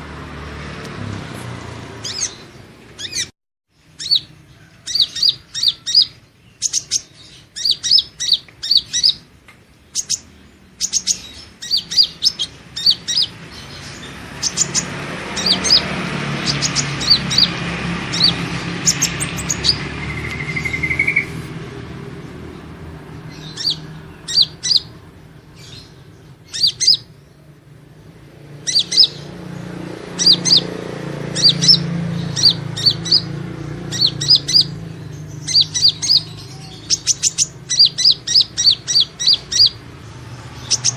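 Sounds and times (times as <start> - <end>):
sunbird chirping: 1.9 - 40.9
rushing background noise: 6.7 - 40.9.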